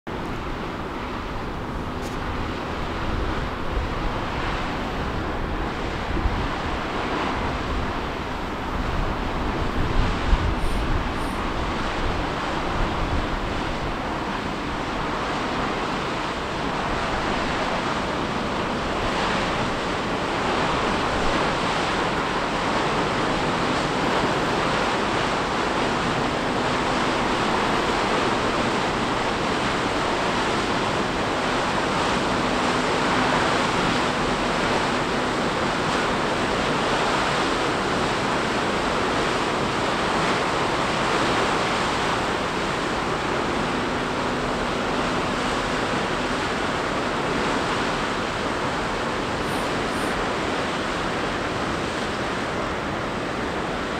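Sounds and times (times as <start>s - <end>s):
ship hull wash and machinery: 0.1s - 53.9s.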